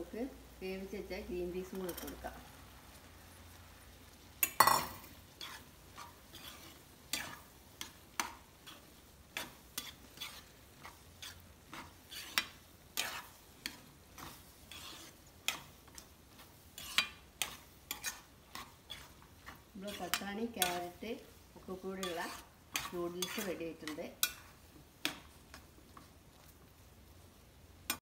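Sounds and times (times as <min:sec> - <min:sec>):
metal spoon scraping frying pan: 0:01.7 - 0:02.3, 0:04.4 - 0:26.5.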